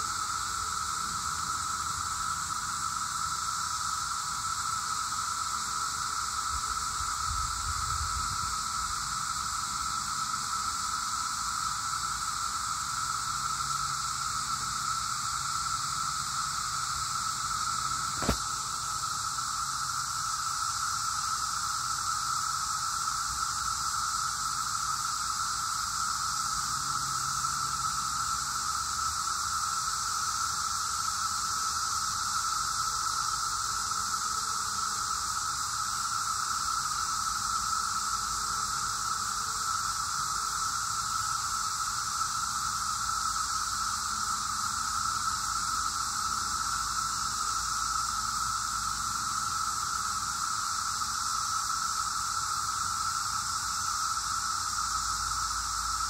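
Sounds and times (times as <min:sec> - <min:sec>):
cicadas whirring drone: 0:00.0 - 0:56.0.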